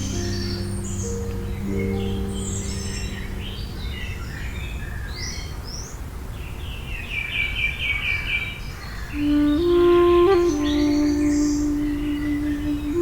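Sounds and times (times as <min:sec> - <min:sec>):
low background noise: 0:00.0 - 0:13.0
songbirds chirping: 0:00.0 - 0:13.0.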